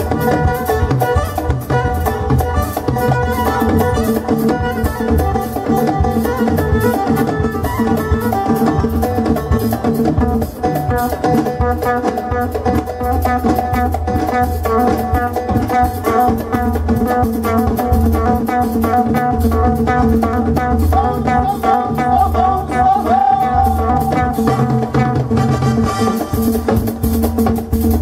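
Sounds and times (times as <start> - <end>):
keyboard melody bending in pitch: 0.0 - 26.8
electric bass: 0.0 - 28.0
frame drums and hand drums: 0.0 - 28.0.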